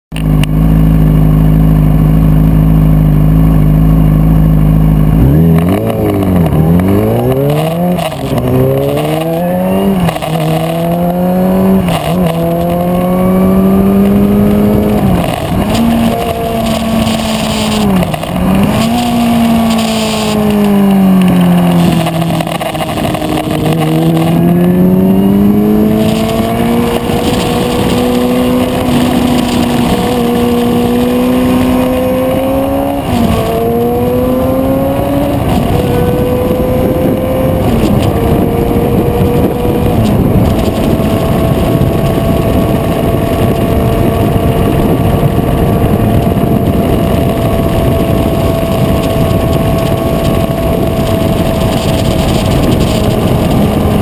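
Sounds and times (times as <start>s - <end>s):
motorcycle engine revving: 0.1s - 54.0s
wind and road noise: 0.1s - 54.0s.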